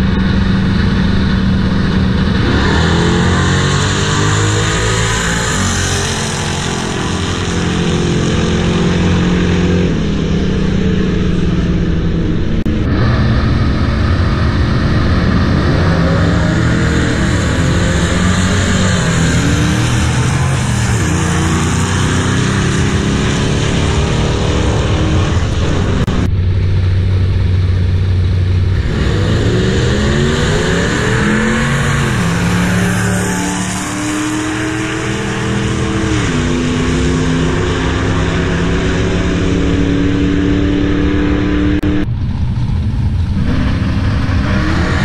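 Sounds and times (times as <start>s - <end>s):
racing car engine at full throttle: 0.0s - 45.0s.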